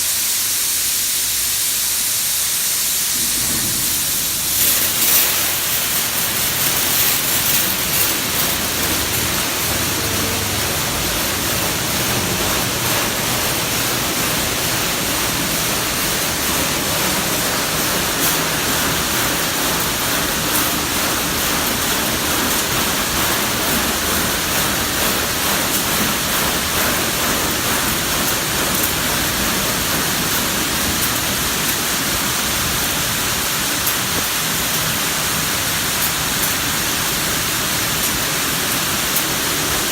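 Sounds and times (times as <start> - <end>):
high-pressure water jets hissing: 0.0 - 39.9.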